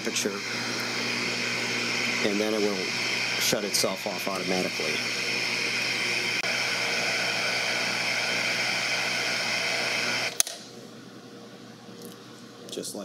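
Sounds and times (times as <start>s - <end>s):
hot air gun fan blowing: 0.0s - 10.5s.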